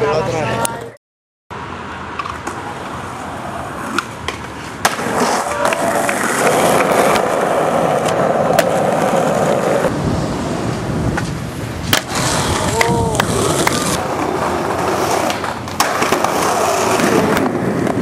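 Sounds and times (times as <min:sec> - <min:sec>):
skateboard wheels rolling: 0:01.7 - 0:18.0
skateboard clacking: 0:02.1 - 0:09.9, 0:11.1 - 0:18.0.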